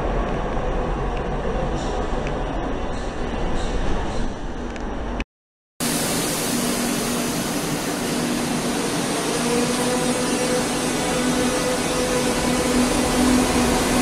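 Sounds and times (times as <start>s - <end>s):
passing metro train: 0.0s - 5.2s, 5.8s - 14.0s.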